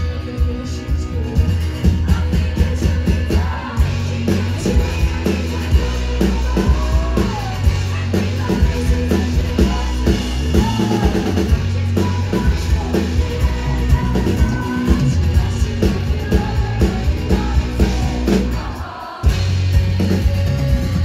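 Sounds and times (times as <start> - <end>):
woman singing: 0.0 - 19.3.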